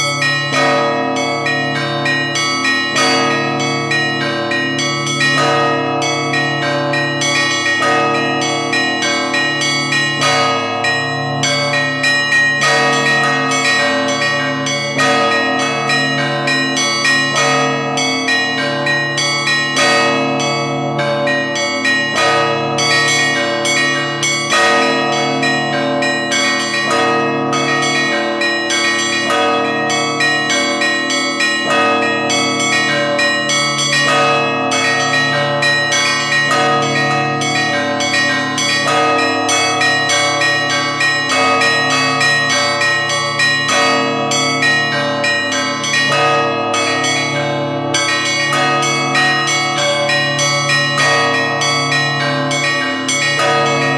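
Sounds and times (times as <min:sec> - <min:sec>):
church bells ringing: 0:00.0 - 0:53.9
deep tone of large bells: 0:00.0 - 0:53.9.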